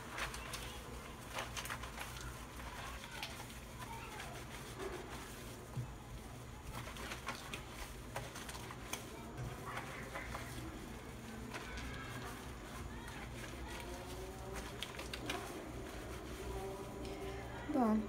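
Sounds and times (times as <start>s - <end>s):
wet cloth squelching: 0.0s - 18.0s.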